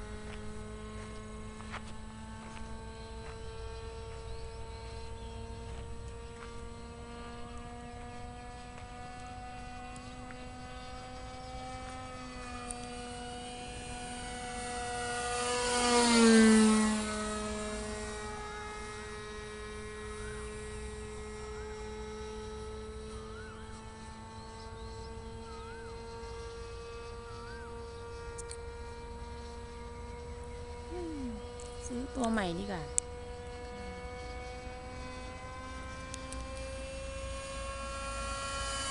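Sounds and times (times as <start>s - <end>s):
model airplane engine fly-by: 0.0s - 38.9s.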